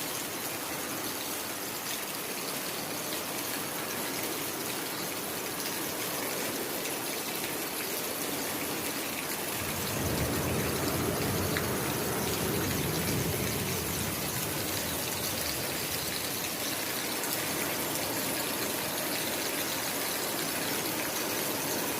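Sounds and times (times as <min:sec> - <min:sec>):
heavy rain falling: 0:00.0 - 0:21.9.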